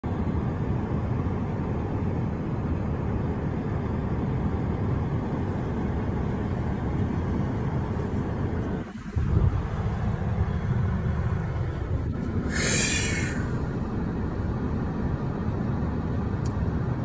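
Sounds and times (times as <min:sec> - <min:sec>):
car cabin rumble: 0:02.4 - 0:17.0.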